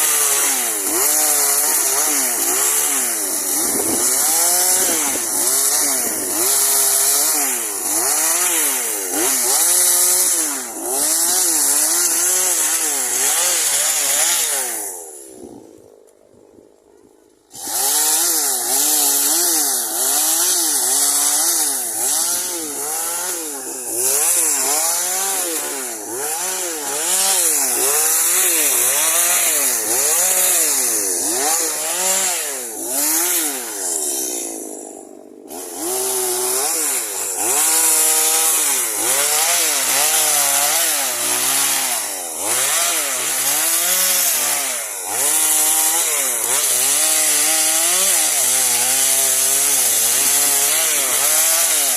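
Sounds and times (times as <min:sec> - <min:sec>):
chainsaw cutting wood: 0:00.0 - 0:16.6, 0:17.2 - 0:51.9.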